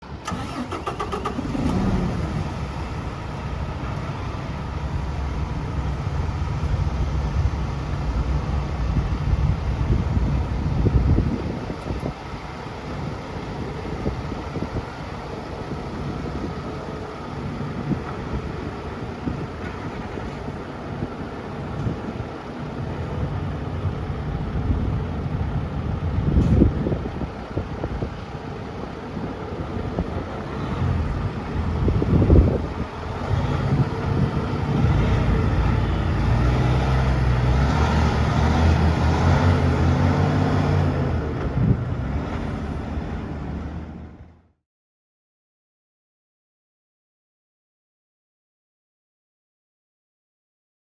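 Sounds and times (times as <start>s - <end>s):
diesel truck engine idling: 0.0s - 44.4s.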